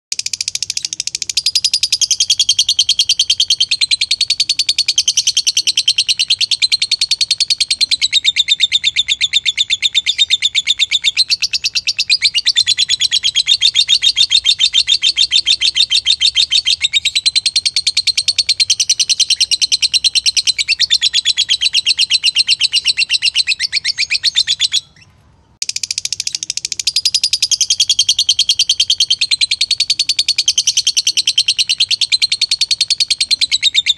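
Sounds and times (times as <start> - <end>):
lovebird chattering trill: 0.1 - 33.9.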